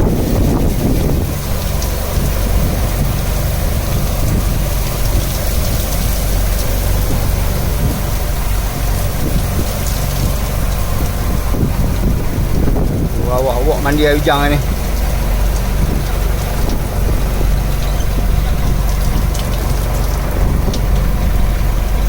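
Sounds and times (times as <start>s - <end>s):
boat engine humming: 0.0s - 22.0s
rain hissing on boat: 0.0s - 22.0s.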